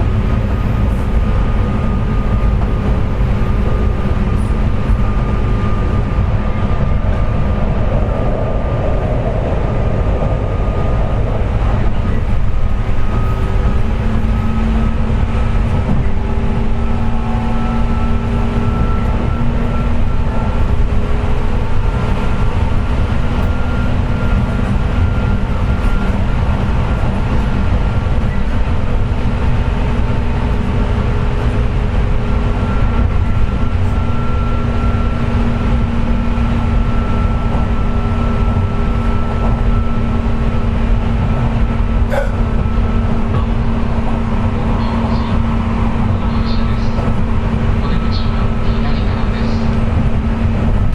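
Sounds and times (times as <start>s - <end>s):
high whine of traction motors: 0.0s - 50.9s
wheels rumbling on rail: 0.0s - 50.9s.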